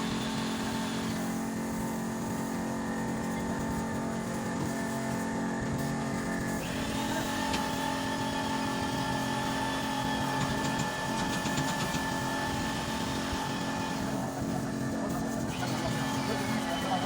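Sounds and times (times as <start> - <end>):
engine running steadily: 0.0 - 17.0
steady whine: 0.0 - 17.0.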